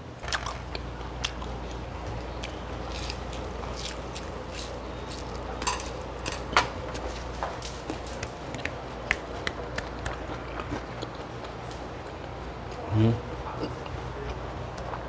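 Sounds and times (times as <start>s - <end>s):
low room hum: 0.0s - 15.0s
crunchy chewing of fried food: 0.2s - 12.8s.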